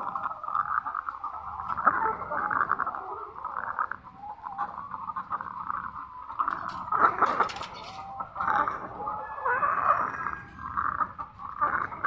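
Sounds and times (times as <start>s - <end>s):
hens calling: 0.0s - 12.0s
rattling snoring breath of hens: 0.0s - 12.0s.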